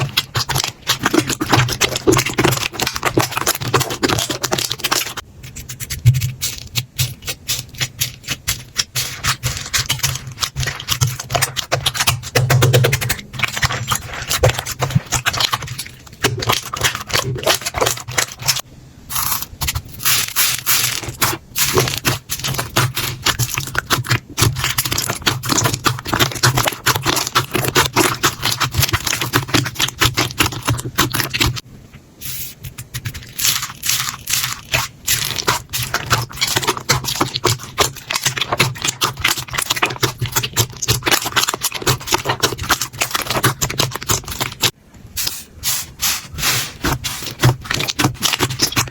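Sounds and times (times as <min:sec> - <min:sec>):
slime crackling and popping: 0:00.0 - 0:31.6, 0:32.7 - 0:44.8, 0:46.8 - 0:48.9.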